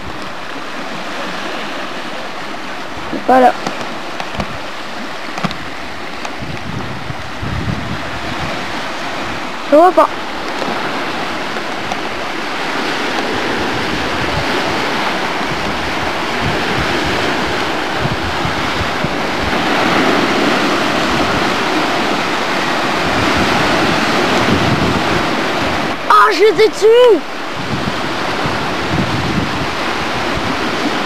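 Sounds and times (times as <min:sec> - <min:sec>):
sea rushing: 0:00.0 - 0:31.0
wind buffeting microphone: 0:00.0 - 0:31.0.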